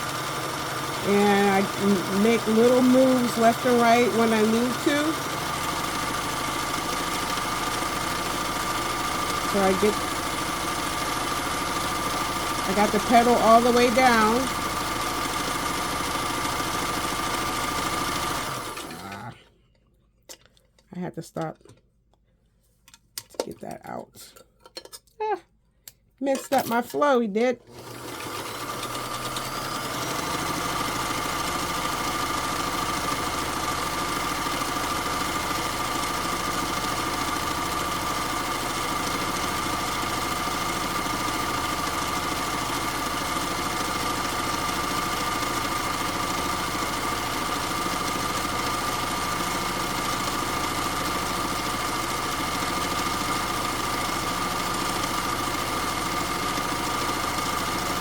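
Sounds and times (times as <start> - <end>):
sewing machine stitching: 0.0 - 19.4, 27.6 - 58.0.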